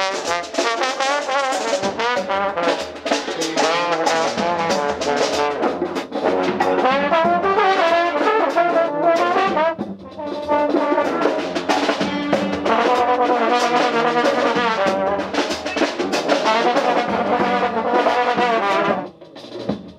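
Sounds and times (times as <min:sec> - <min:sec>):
brass band playing: 0:00.0 - 0:19.8
trombone: 0:00.0 - 0:19.9.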